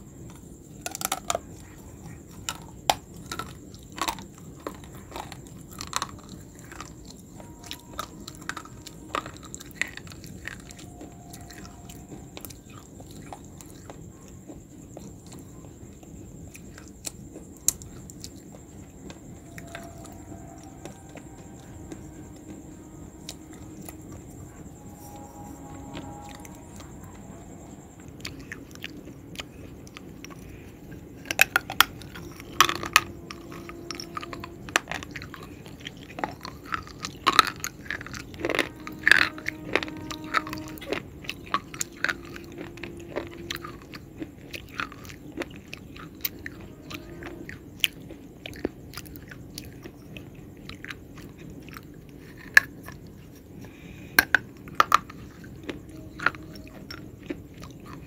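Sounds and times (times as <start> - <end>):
chewing: 0.2 - 58.0.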